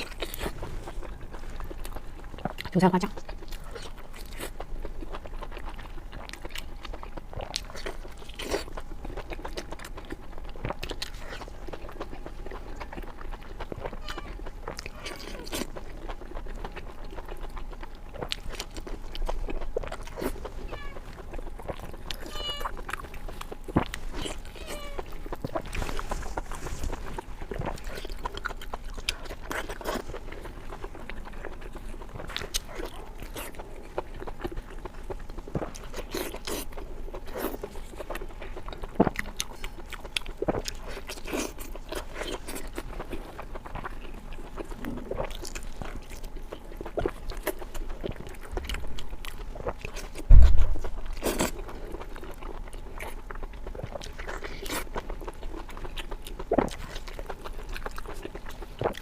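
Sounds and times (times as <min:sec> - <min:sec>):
person biting and chewing: 0:00.0 - 0:59.0.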